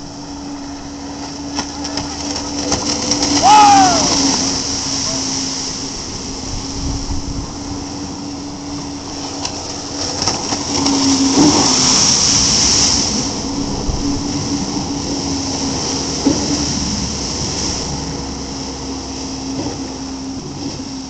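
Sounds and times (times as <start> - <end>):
jet ski engine humming: 0.0 - 21.0
rushing water: 0.0 - 21.0.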